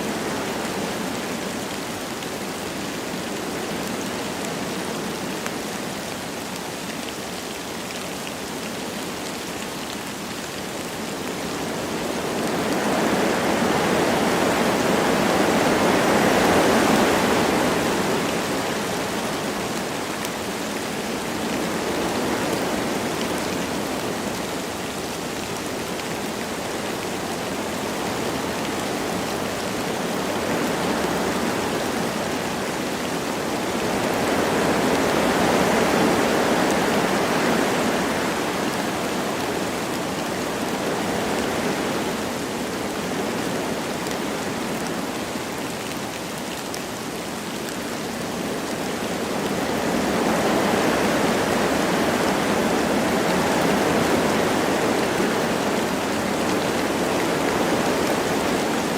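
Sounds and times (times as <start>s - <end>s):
light rain falling: 0.0s - 58.9s
wind through trees: 0.0s - 58.9s.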